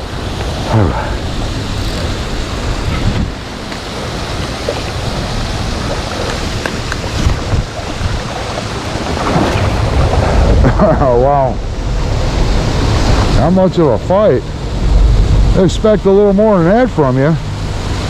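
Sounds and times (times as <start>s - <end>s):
creek water rushing: 0.0s - 18.0s
wind buffeting microphone: 0.0s - 18.0s.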